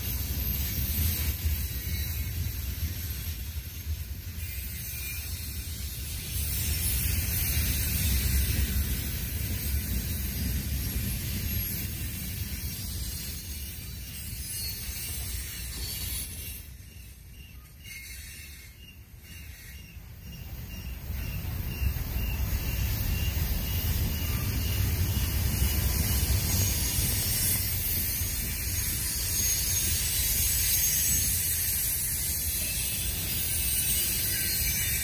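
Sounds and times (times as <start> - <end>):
freight cars rumbling on rails: 0.0 - 35.0
high hiss from train wheels: 0.0 - 35.0.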